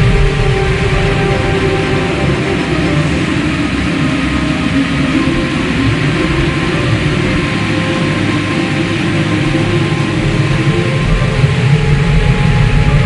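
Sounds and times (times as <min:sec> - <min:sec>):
tornado wind roar: 0:00.0 - 0:13.0.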